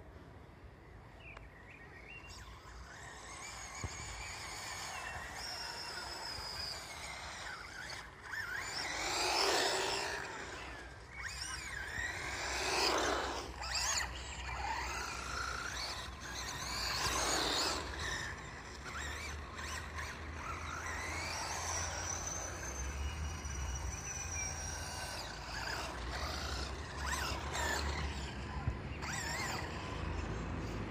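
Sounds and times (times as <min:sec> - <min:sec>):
electric motor whining: 0:02.3 - 0:30.9.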